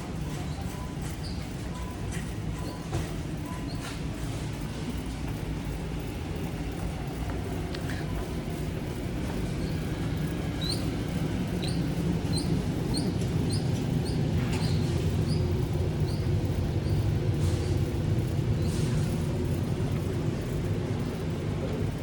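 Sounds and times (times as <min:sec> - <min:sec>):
steady low rumble: 0:04.1 - 0:22.0.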